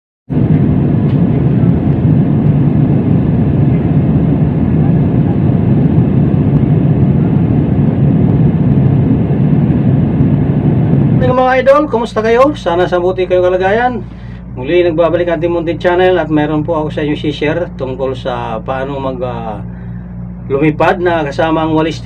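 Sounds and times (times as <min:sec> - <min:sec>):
jet airliner cabin roar: 0:00.3 - 0:22.0.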